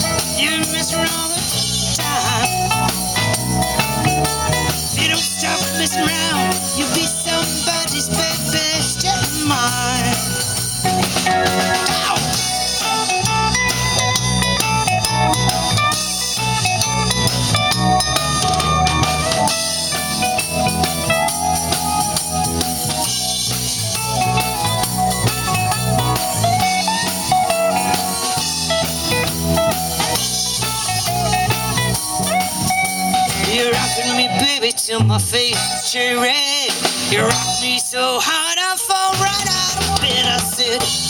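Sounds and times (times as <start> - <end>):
electric guitar soloing: 0.0 - 35.0
bass guitar: 0.0 - 41.0
drum kit: 0.0 - 41.0.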